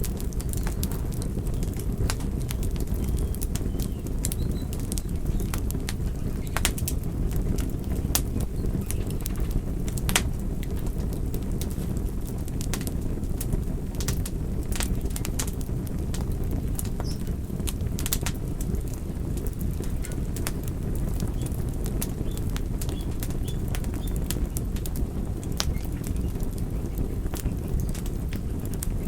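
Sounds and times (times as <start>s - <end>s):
campfire flames rushing: 0.0s - 29.0s
fire crackling and popping: 0.0s - 29.0s.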